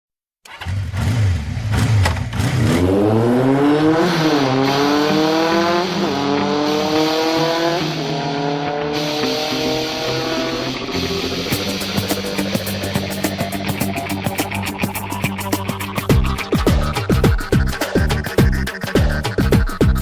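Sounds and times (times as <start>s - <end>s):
vehicle engine accelerating: 0.5s - 20.0s.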